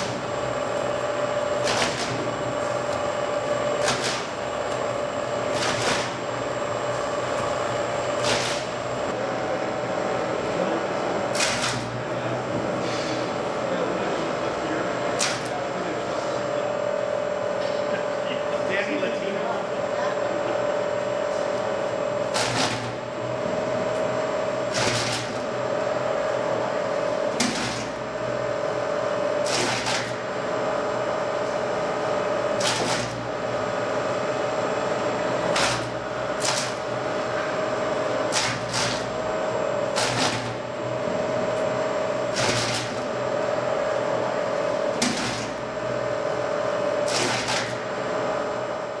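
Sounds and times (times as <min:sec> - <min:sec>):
dicer machine humming: 0:00.0 - 0:49.0.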